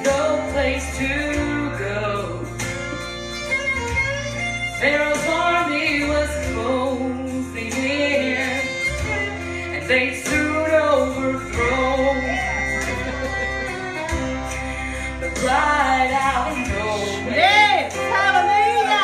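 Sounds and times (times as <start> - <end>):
woman singing gospel song: 0.0 - 2.7, 4.8 - 13.2, 14.5 - 19.0
instrumental accompaniment with bass: 0.0 - 19.0.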